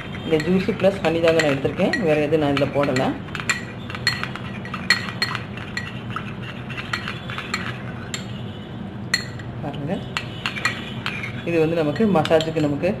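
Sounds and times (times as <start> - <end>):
spoon clinking against glass bowl: 0.2 - 8.3, 9.1 - 9.5, 10.1 - 12.9.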